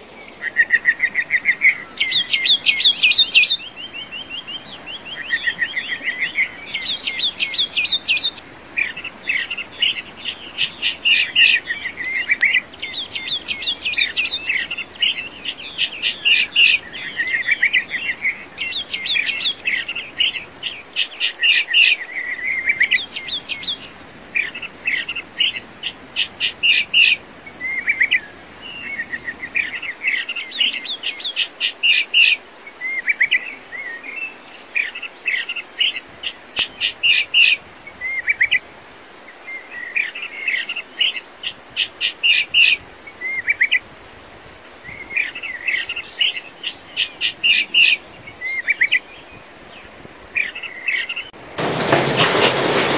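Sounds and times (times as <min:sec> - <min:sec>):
birds singing: 0:00.0 - 0:51.4.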